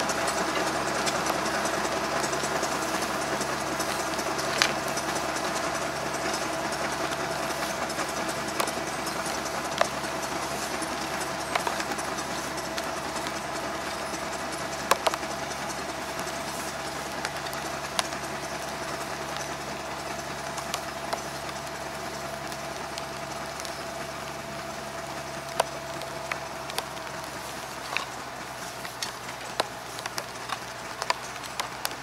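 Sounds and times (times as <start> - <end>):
engine idling: 0.0 - 32.0
hoe striking soil: 0.0 - 32.0.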